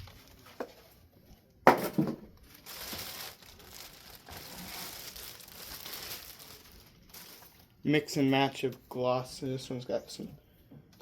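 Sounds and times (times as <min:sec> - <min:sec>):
pulp packaging crinkling and rustling: 0:00.0 - 0:09.4.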